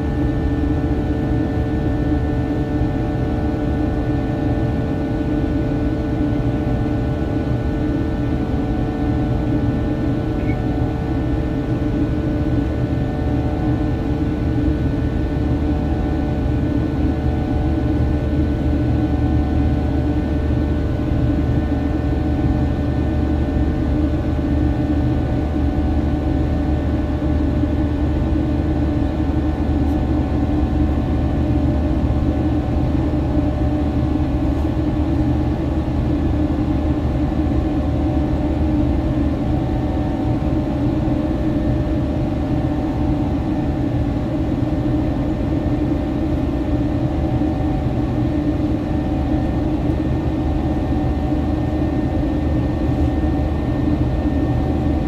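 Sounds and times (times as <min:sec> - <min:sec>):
faint steady hum tones: 0:00.0 - 0:55.0
low jet engine rumble: 0:00.0 - 0:55.0.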